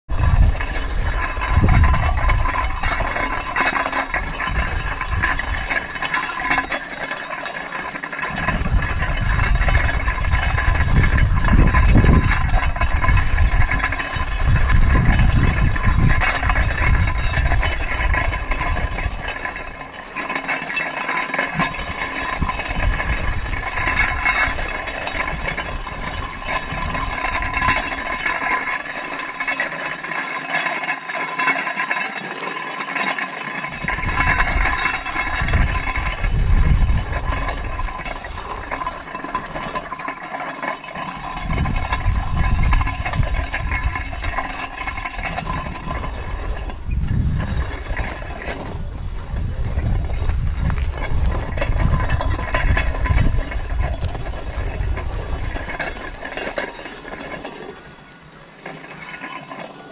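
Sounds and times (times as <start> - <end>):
metal sled dragging over gravel: 0.1 - 59.9.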